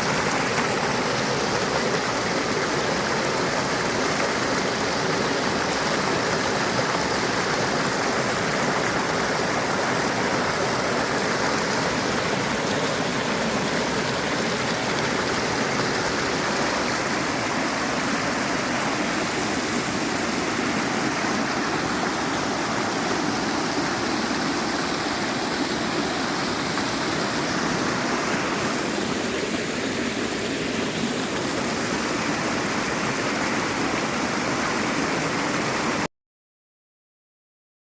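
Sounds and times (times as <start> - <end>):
stream water babbling over stones: 0.0 - 36.1.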